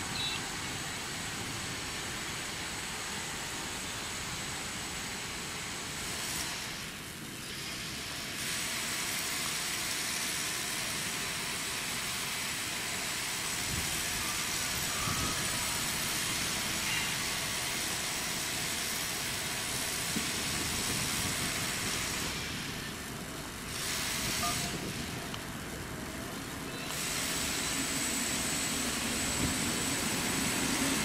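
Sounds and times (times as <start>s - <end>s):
diesel railcar approaching: 0.0s - 31.0s
electric train rumbling: 0.0s - 31.0s.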